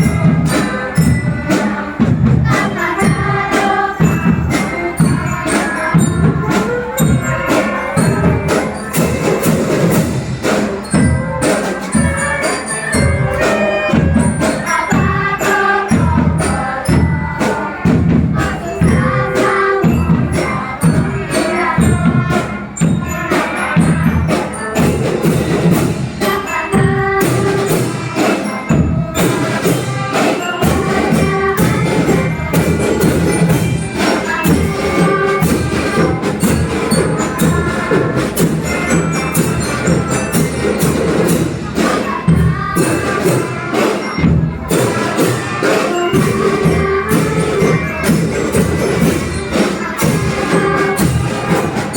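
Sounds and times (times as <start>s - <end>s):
choir singing: 0.0s - 51.9s
jingling percussion: 0.0s - 51.9s.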